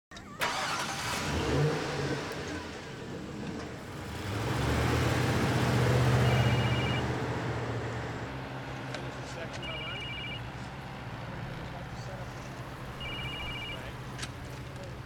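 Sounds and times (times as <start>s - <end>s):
suv engine accelerating: 0.4s - 15.0s.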